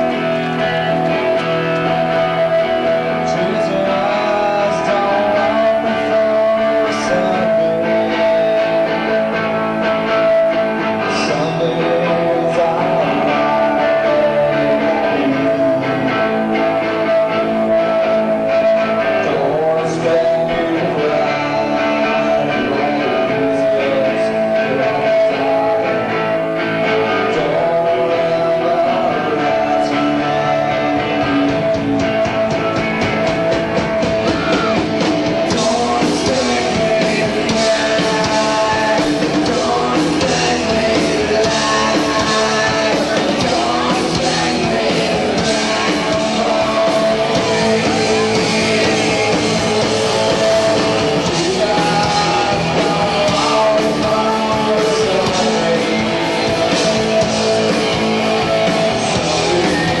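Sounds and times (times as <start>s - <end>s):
live rock band: 0.0s - 60.0s
man singing: 0.0s - 60.0s.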